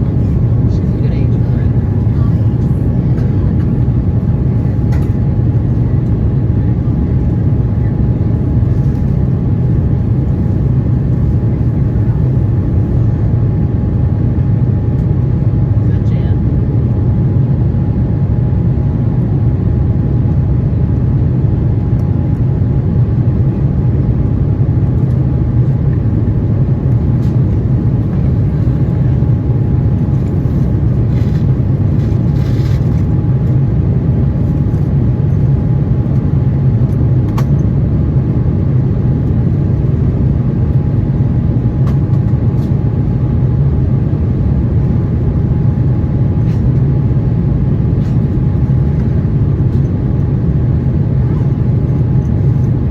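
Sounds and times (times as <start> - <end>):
airliner cabin rumble: 0.0 - 52.9
faint steady engine tone: 0.0 - 52.9.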